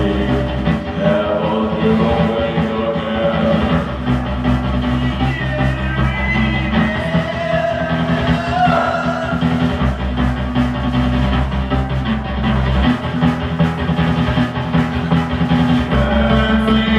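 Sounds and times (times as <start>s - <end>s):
bass guitar notes: 0.0s - 16.9s
drums: 0.0s - 16.9s
electric guitar: 0.0s - 16.9s.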